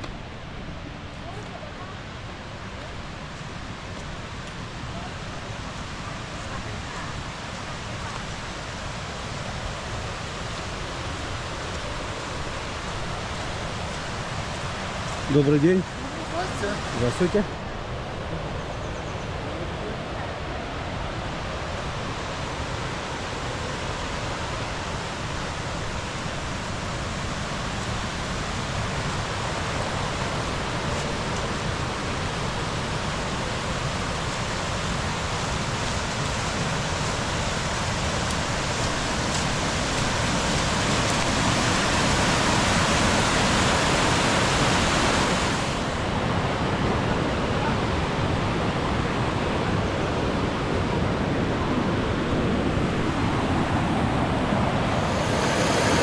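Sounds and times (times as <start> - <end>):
rushing water of a stream: 0.0 - 56.0.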